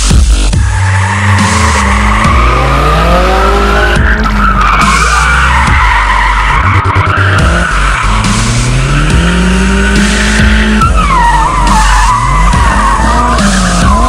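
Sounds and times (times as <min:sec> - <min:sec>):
bass-heavy music: 0:00.0 - 0:14.0
car engine revving: 0:00.0 - 0:14.0
tyres squealing: 0:00.6 - 0:14.0.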